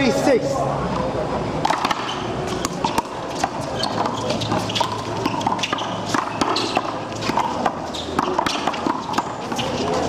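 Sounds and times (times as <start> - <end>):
shoes squeaking on concrete: 1.6 - 10.0.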